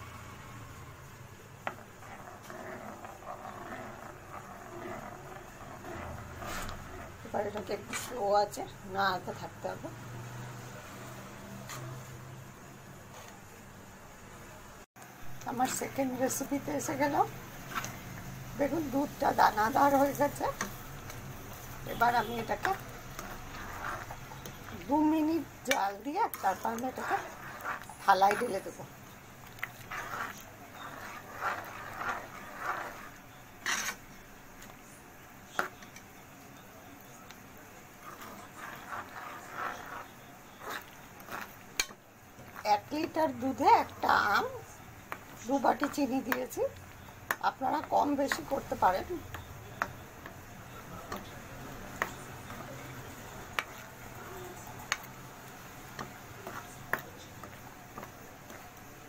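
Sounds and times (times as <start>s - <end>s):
metal spoon scraping a pan: 1.6s - 9.8s, 10.4s - 12.3s, 15.5s - 34.7s, 35.5s - 36.2s, 37.9s - 59.0s.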